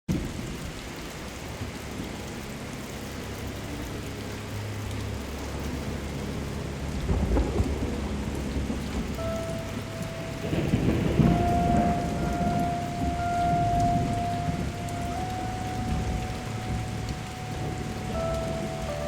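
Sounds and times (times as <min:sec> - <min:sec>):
low rumble of thunder: 0:00.1 - 0:19.0
steady rain falling: 0:00.1 - 0:19.0.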